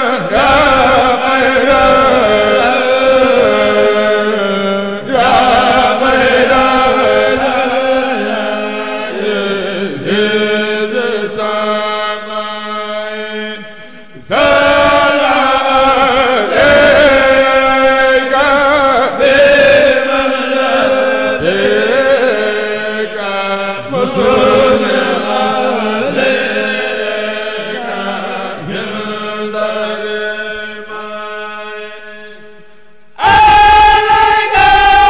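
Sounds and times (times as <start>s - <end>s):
men chanting into microphones: 0.0s - 32.4s, 33.2s - 35.0s.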